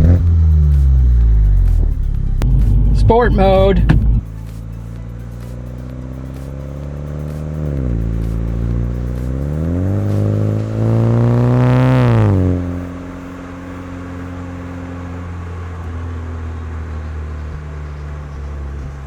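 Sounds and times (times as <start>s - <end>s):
car engine exhaust accelerating: 0.0s - 19.0s.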